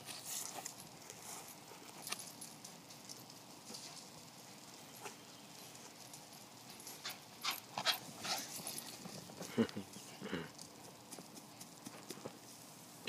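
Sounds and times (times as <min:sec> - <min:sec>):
dog paws tapping on grass: 0:00.0 - 0:12.7.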